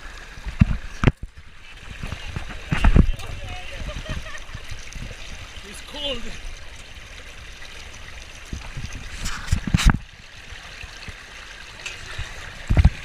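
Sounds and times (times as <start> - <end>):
water splashing down a waterslide: 0.0 - 13.0.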